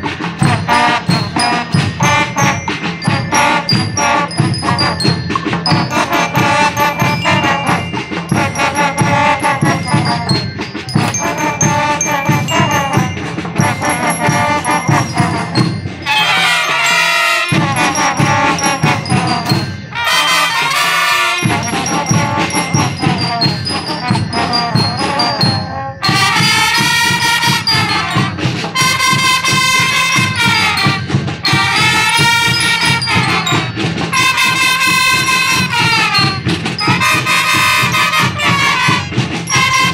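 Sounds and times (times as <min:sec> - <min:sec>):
brass band playing: 0:00.0 - 0:39.9
steady drum beat: 0:00.0 - 0:39.9.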